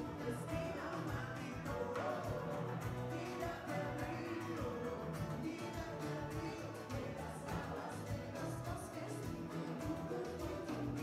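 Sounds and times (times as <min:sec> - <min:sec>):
drums: 0:00.0 - 0:11.0
electric guitars: 0:00.0 - 0:11.0
live band playing: 0:00.0 - 0:11.0.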